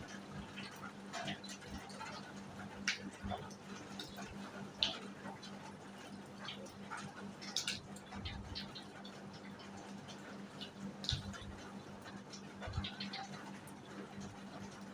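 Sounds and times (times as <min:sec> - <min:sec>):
light rain pattering: 0:00.0 - 0:14.9
water drops dripping: 0:00.1 - 0:14.9.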